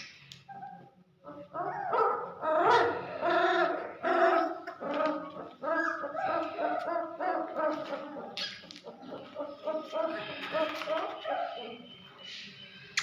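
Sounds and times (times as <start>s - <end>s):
puppies whining and yelping: 0.0s - 11.8s.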